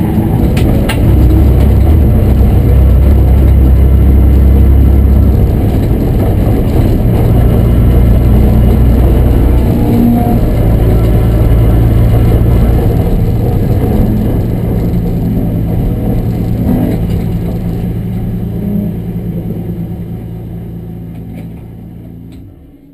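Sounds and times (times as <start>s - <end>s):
race car engine running: 0.0s - 22.9s.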